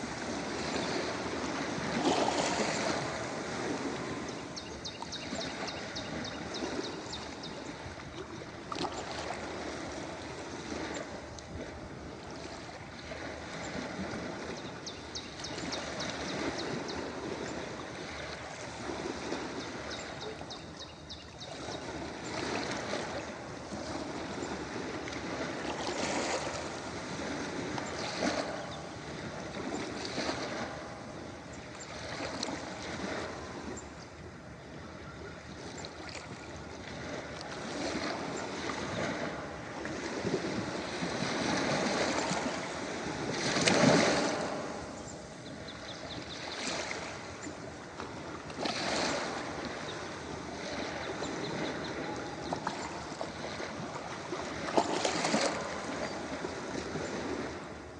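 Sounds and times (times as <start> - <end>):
ocean waves washing onto shore: 0.0 - 57.9.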